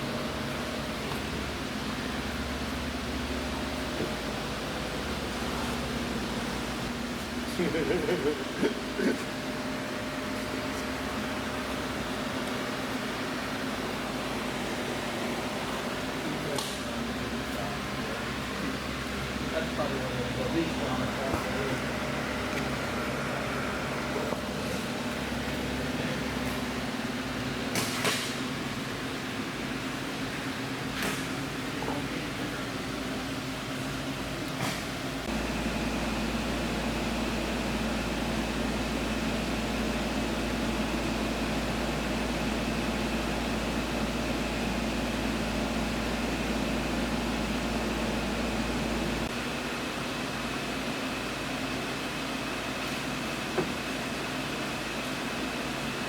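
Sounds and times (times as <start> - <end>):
machinery hum: 0.0 - 56.0.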